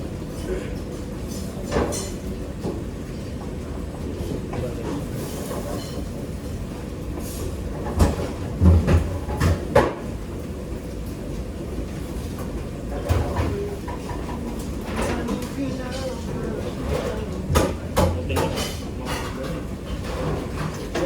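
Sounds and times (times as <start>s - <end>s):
kitchen low rumble: 0.0s - 21.0s.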